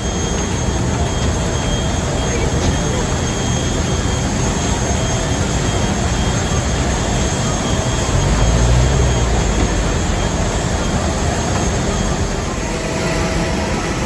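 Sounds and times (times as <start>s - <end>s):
jet engine roar in cabin: 0.0s - 14.0s.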